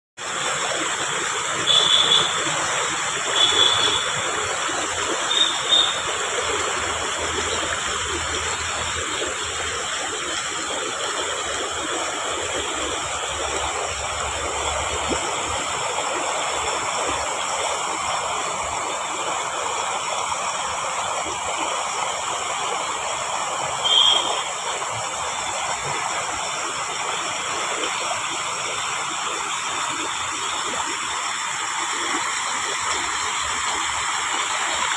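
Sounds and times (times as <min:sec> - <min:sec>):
stream flowing: 0:00.2 - 0:34.9.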